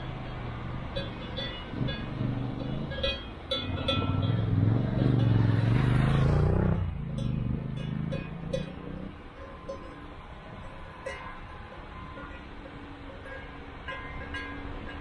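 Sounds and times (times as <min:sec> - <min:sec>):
off-road engine under load: 0:00.0 - 0:15.0.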